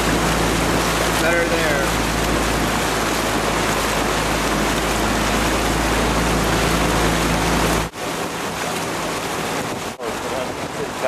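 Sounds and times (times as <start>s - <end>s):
water rushing: 0.0s - 11.0s
wind noise: 2.0s - 11.0s.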